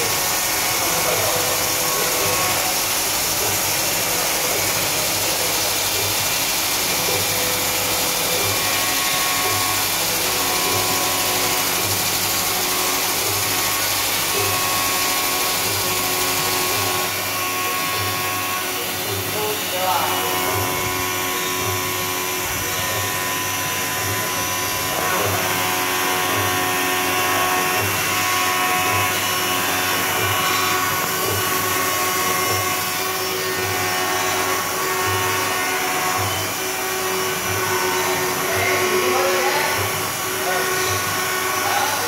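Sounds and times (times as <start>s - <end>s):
milling machine cutter whine: 0.0s - 42.0s.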